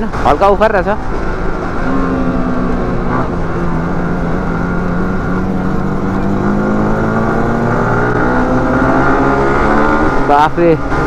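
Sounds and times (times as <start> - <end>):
motorcycle engine running: 0.0 - 11.0
second motorcycle riding alongside: 0.9 - 11.0.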